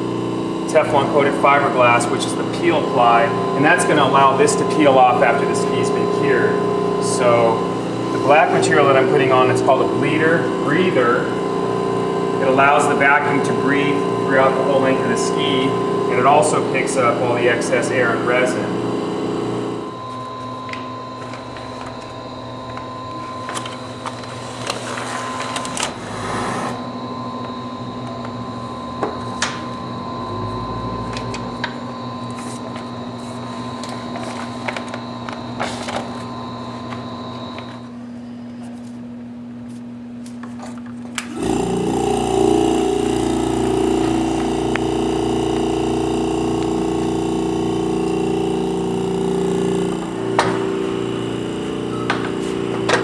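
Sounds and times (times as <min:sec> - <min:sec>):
steady hum: 0:00.0 - 0:53.0
vacuum pump running: 0:00.0 - 0:53.0.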